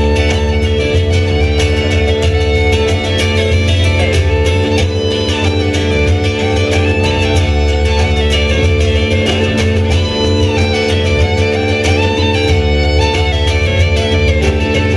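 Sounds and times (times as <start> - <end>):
strummed mandolin: 0.0 - 14.9
upright double bass: 0.0 - 14.9.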